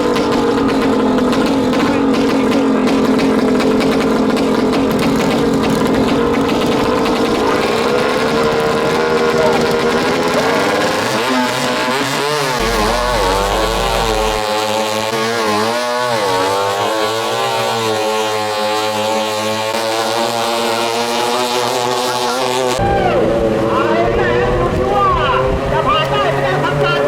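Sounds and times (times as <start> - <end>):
speedboat engine running hard: 0.0 - 15.0, 15.7 - 27.0.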